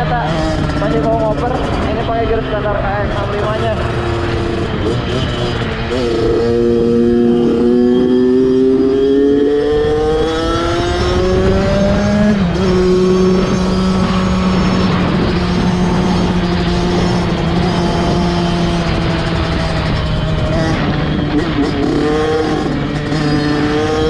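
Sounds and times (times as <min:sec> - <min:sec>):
dirt bike engine at full throttle: 0:00.0 - 0:24.0.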